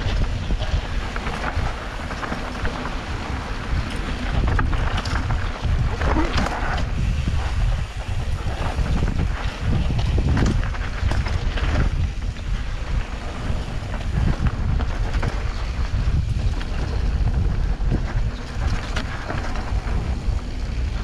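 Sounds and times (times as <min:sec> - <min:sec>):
bike clicks and rattles: 0:00.0 - 0:21.0
tyres rumbling over dirt trail: 0:00.0 - 0:21.0
wind buffeting microphone: 0:00.0 - 0:21.0.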